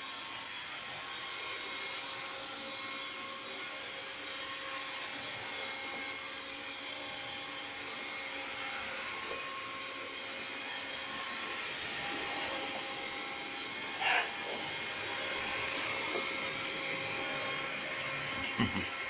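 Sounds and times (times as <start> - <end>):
robot vacuum whirring: 0.0 - 18.9.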